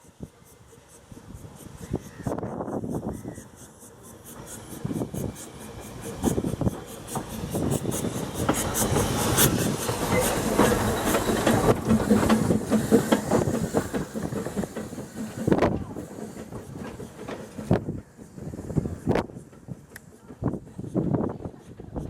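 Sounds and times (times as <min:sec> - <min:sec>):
steam hissing: 0:00.0 - 0:22.0
steam train running: 0:00.0 - 0:22.0
wheels clicking on rails: 0:03.6 - 0:22.0.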